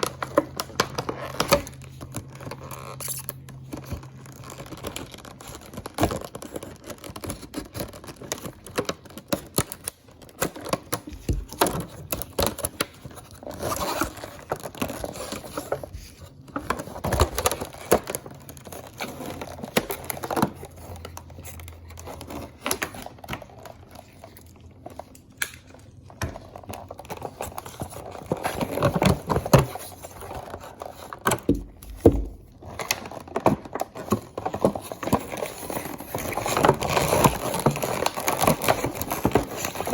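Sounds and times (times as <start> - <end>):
plastic and cardboard crinkling: 0.0 - 39.9.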